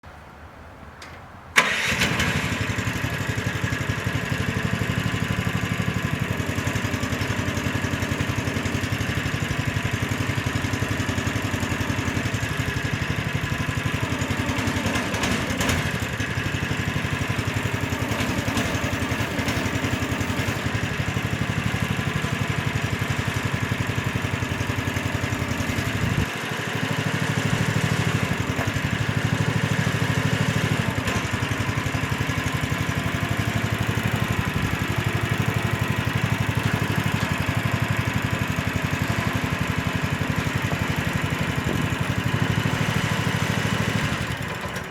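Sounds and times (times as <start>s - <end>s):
excavator engine running: 1.0s - 44.9s.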